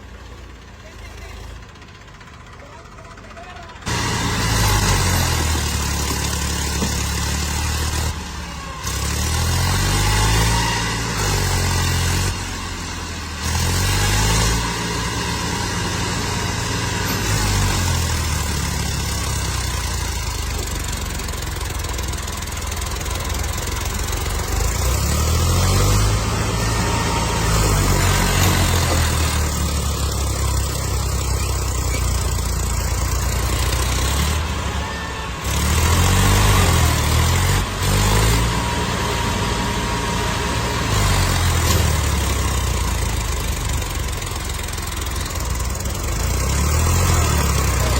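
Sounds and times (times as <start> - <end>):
tractor diesel engines revving: 0.0 - 47.9.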